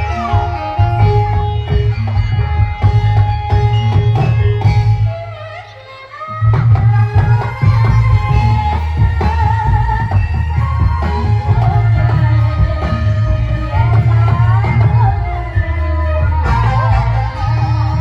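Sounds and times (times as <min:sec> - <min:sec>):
heavy bass: 0:00.0 - 0:05.3, 0:06.4 - 0:18.0
hand drums: 0:00.0 - 0:05.6, 0:06.4 - 0:18.0
traditional accompaniment music: 0:00.0 - 0:18.0.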